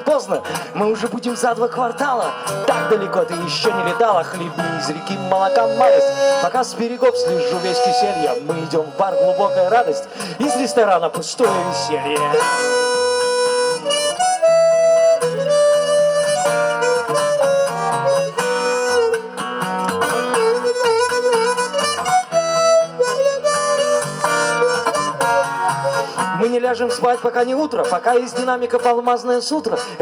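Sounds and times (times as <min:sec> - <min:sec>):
harmonica melody: 0:00.0 - 0:28.8
strummed acoustic guitar: 0:00.0 - 0:30.0.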